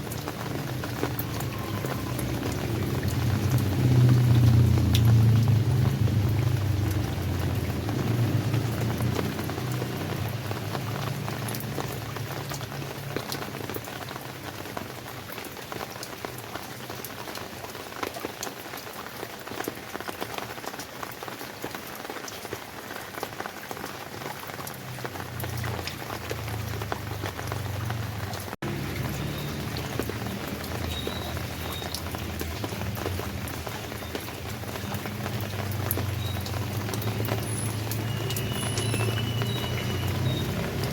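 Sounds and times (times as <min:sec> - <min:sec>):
rain drops pattering: 0:00.0 - 0:40.9.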